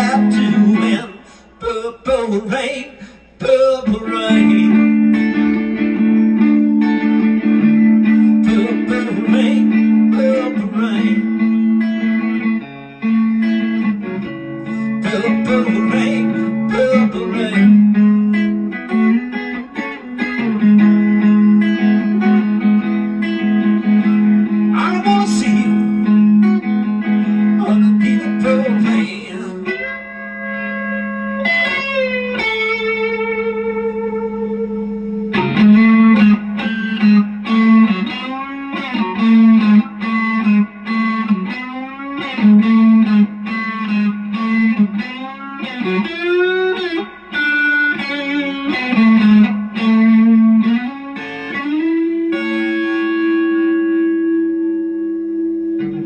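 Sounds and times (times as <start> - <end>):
electric guitar solo: 0.0 - 56.0.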